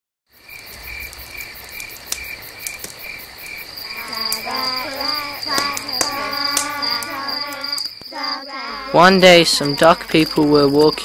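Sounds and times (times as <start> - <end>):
insects chirping: 0.3 - 11.0.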